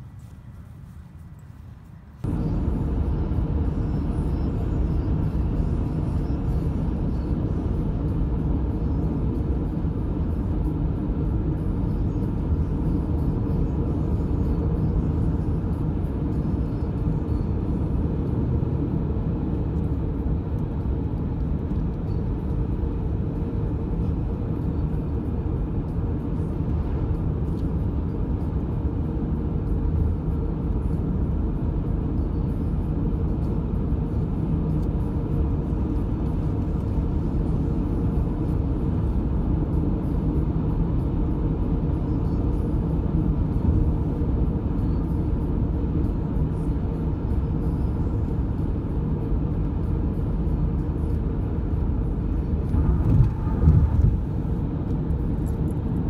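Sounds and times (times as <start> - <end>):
car tyres and engine rumbling: 0.0 - 56.0.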